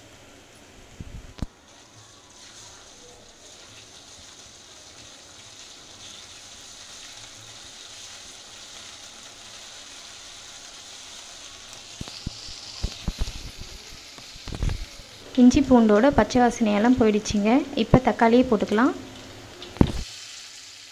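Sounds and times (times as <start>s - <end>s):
onions sizzling in hot oil: 0.0s - 20.9s.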